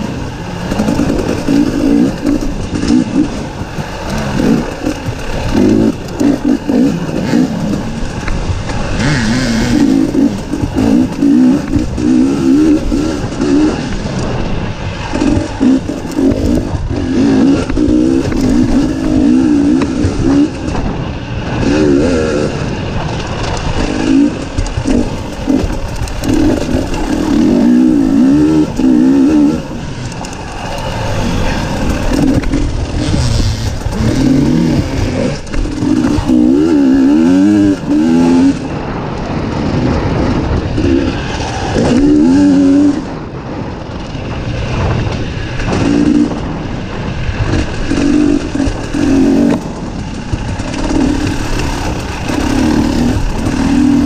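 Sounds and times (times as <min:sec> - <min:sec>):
dirt bike engine revving: 0:00.0 - 0:54.0
steady rushing noise: 0:00.0 - 0:54.0.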